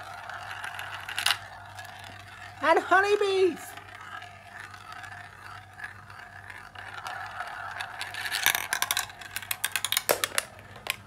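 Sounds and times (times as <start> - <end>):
marbles clattering down plastic track: 0.0 - 11.0
marbles rolling in plastic funnel: 0.0 - 11.0.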